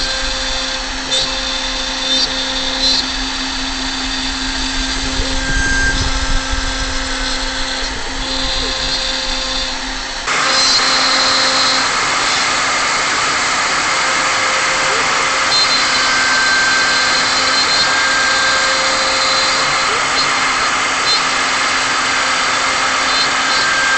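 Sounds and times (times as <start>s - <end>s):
router spindle whining while milling: 0.0s - 23.9s.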